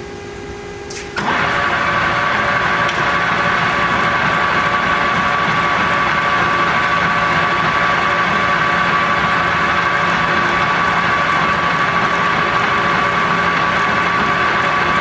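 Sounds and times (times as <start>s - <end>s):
lathe humming with high whine: 1.2s - 15.0s.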